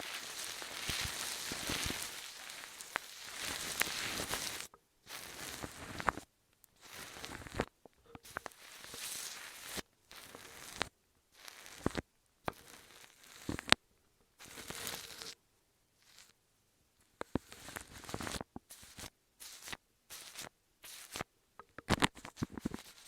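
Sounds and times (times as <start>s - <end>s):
scratchy crinkling and rustling: 0.0s - 13.8s, 14.4s - 15.4s, 16.0s - 16.4s, 17.0s - 23.0s.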